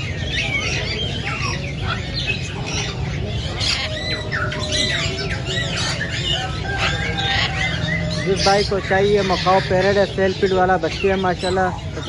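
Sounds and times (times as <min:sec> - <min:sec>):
caged birds squawking and chirping: 0:00.0 - 0:12.0.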